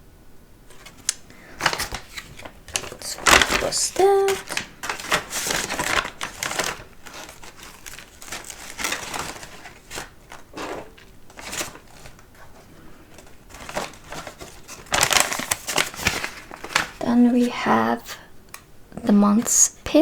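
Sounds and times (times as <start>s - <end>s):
packaging crinkling and rustling: 0.7s - 17.6s.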